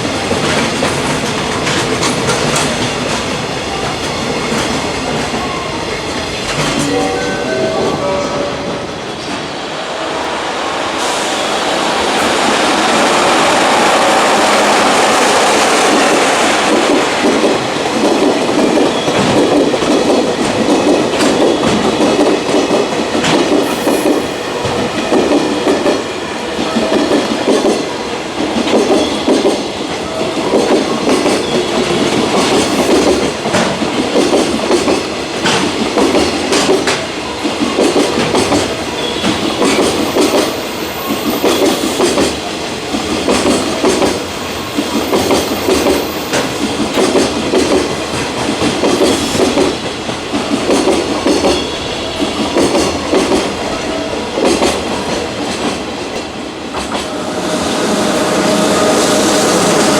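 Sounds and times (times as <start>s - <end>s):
train wagons clattering over rails: 0.0s - 9.6s, 14.0s - 59.9s.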